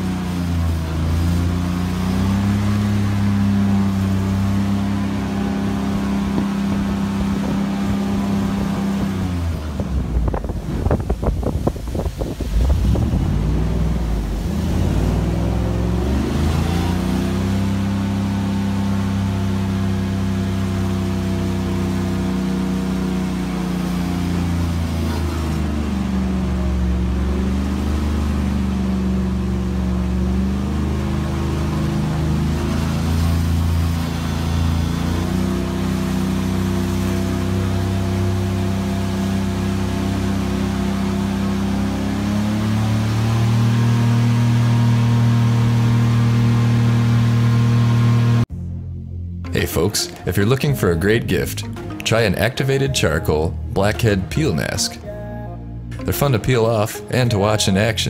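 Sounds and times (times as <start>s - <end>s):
boat motor running: 0.0s - 58.0s.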